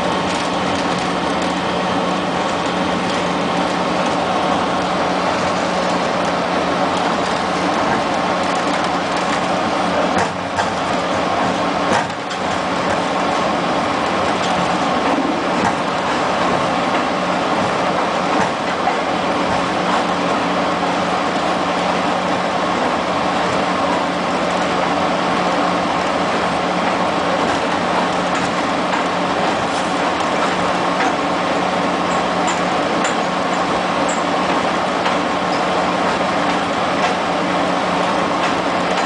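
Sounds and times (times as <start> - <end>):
diesel locomotive engine droning: 0.0 - 39.0
train rolling along: 0.0 - 39.0.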